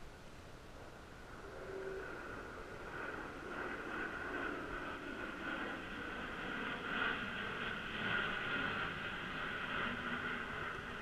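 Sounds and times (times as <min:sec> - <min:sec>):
turboprop aircraft droning: 0:00.0 - 0:11.0.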